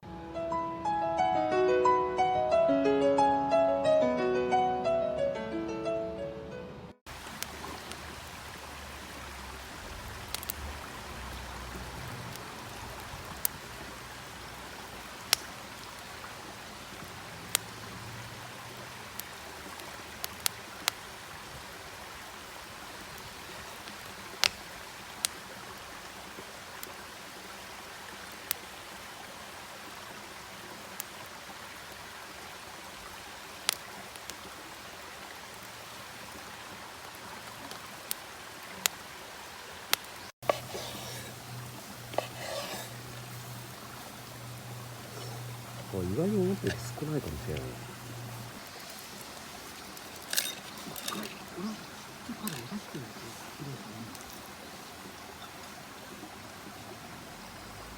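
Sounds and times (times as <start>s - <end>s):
campfire crackling: 7.0s - 57.9s.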